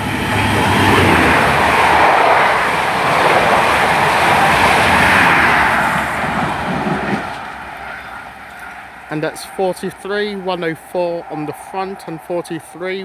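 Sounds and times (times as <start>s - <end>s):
diesel train passing at speed: 0.0s - 13.0s.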